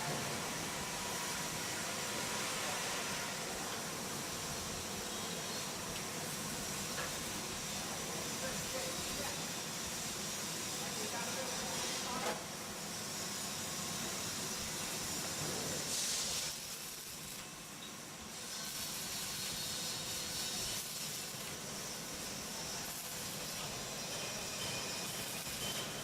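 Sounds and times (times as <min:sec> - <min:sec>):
welding arc hissing: 0:00.0 - 0:26.0.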